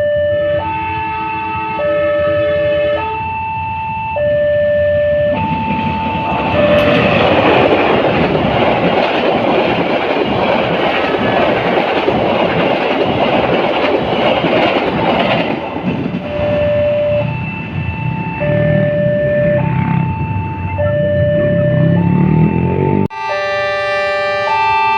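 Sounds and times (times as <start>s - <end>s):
two-tone crossing alarm: 0.0s - 13.6s, 14.2s - 24.9s
train rumble and wheel noise: 0.0s - 24.9s.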